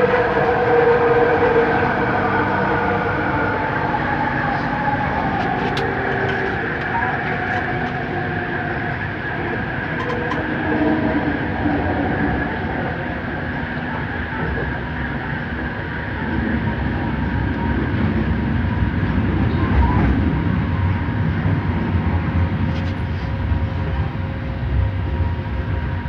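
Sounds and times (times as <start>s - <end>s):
train rumbling at speed: 0.0s - 26.0s.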